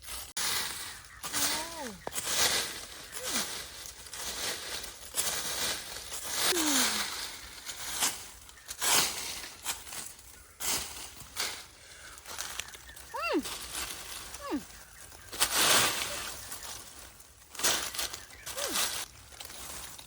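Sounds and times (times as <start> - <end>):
leaves and stems rustling: 0.0 - 20.0.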